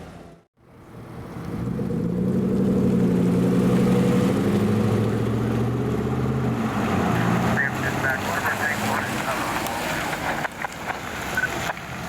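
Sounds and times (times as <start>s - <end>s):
fire truck engine accelerating: 0.6s - 12.0s.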